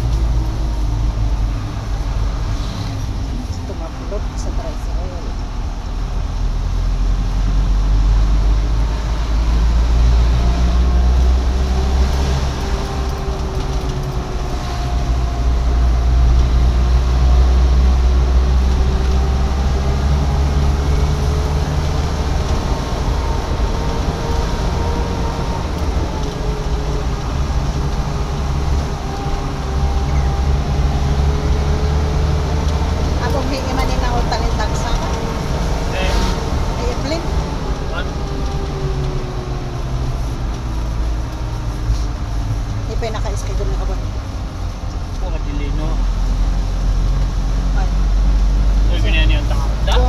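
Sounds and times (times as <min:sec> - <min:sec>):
vehicle engine low rumble: 0:00.0 - 0:50.0.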